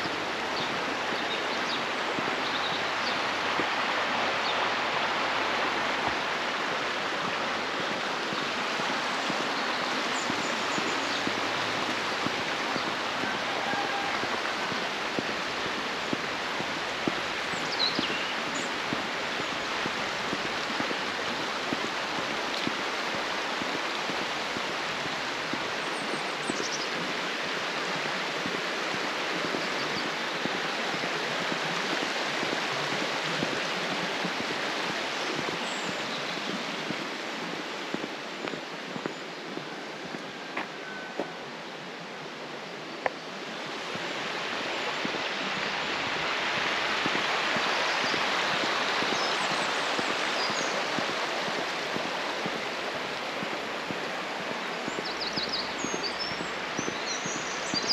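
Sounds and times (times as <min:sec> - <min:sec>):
stream water flowing over rocks: 0:00.0 - 0:57.9.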